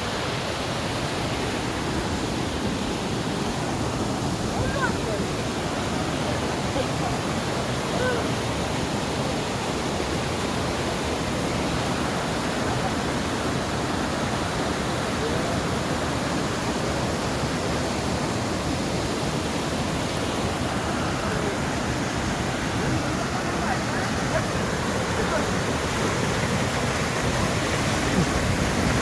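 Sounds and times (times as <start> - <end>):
waterfall rushing into pool: 0.0 - 29.0.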